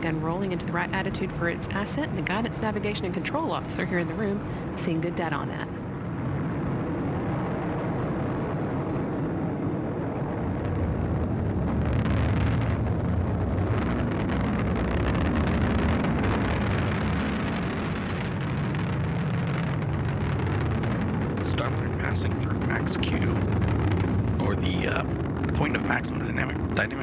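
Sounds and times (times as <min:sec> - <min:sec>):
rocket engine deep rumble: 0:00.0 - 0:27.0.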